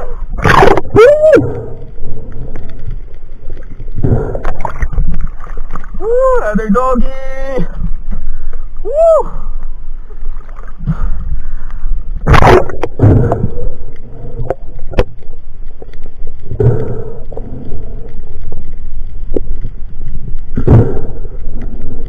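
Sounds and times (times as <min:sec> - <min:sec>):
sea water sloshing and gurgling: 0:00.0 - 0:22.0
steady low rumble: 0:00.0 - 0:22.0.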